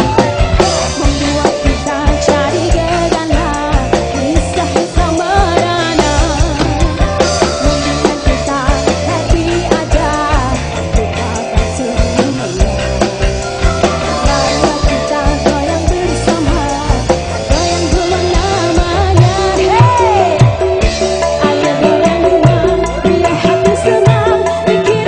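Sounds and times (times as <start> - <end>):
live band playing: 0.0 - 25.0
steady drum beat: 0.0 - 25.0
woman singing into microphone: 0.6 - 25.0.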